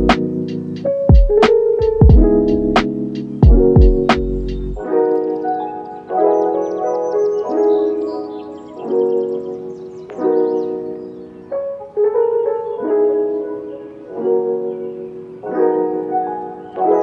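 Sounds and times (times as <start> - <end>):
mellow piano chords: 0.0 - 17.0.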